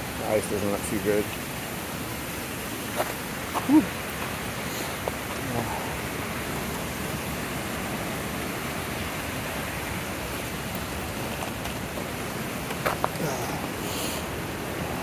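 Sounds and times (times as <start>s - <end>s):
brook water rushing: 0.0s - 15.0s.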